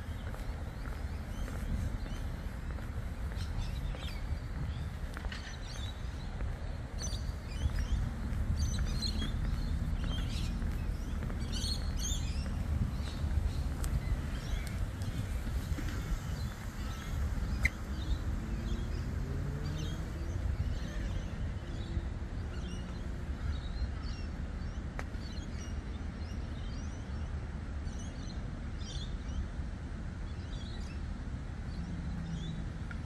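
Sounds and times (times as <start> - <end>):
small birds chirping: 0.0 - 29.5.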